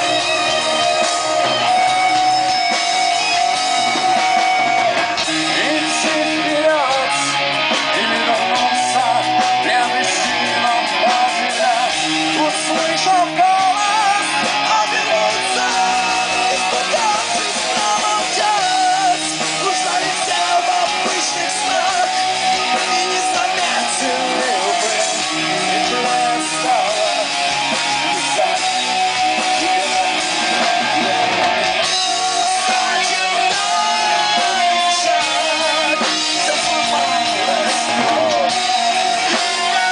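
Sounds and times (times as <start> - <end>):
loud rock music with singing: 0.0 - 39.9.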